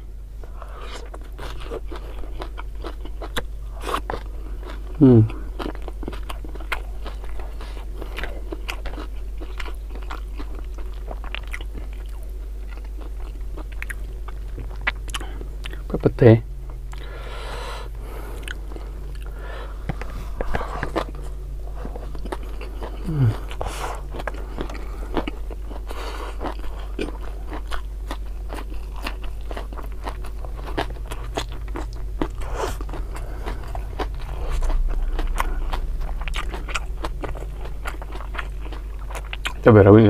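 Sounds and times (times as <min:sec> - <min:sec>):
low hum falling in pitch: 0:00.0 - 0:39.9
chewing and crunching vegetables: 0:00.4 - 0:40.0.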